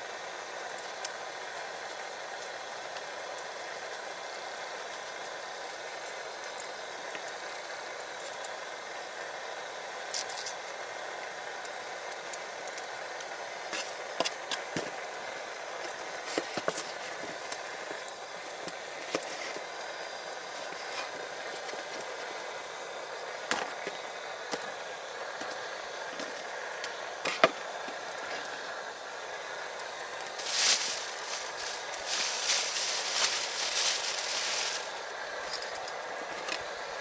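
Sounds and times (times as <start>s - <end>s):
fire crackles and pops: 0.0s - 37.0s
wood fire hissing: 0.0s - 37.0s.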